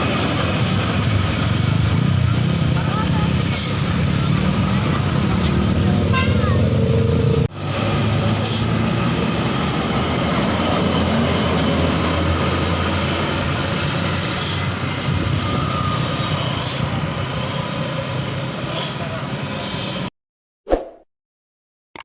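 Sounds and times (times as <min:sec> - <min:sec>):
dump truck engine rumble: 0:00.0 - 0:20.1.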